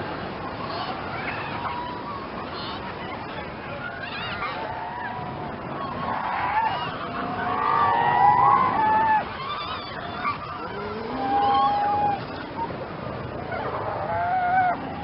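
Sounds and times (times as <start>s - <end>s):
sea lions calling: 0.2s - 15.0s.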